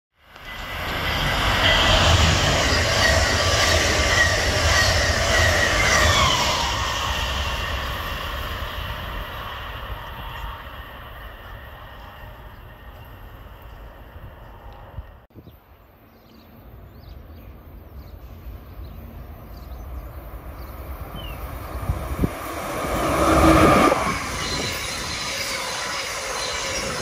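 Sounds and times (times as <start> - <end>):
high-pitched train whines: 0.2 - 15.3, 17.9 - 27.0
train passing at speed: 0.2 - 15.3, 16.5 - 27.0.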